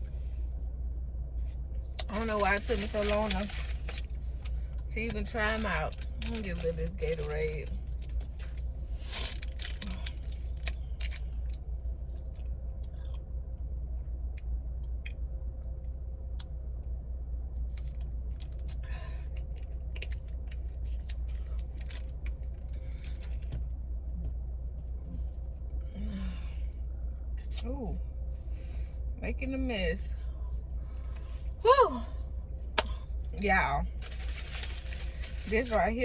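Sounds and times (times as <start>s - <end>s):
low hum in car cabin: 0.0s - 36.0s.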